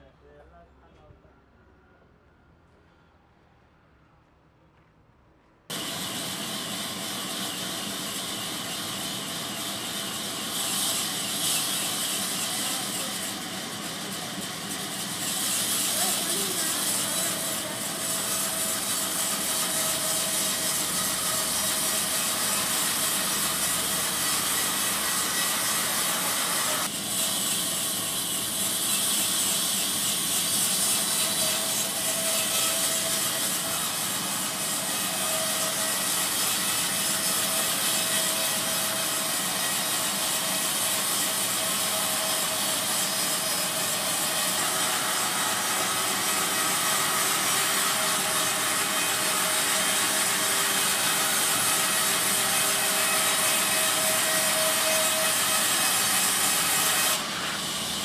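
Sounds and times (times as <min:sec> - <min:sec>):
bandsaw cutting log: 0:05.7 - 0:58.0.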